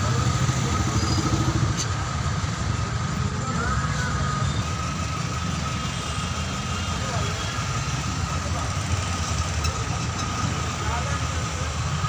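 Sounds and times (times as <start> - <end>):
traffic and engine rumble: 0.0 - 12.0.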